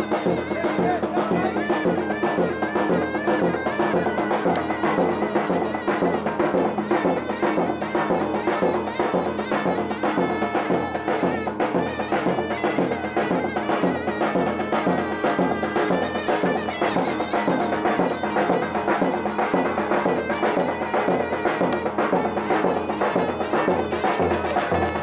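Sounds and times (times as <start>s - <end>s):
shrill reed wind instrument melody: 0.0s - 25.0s
steady drum rhythm: 0.0s - 25.0s.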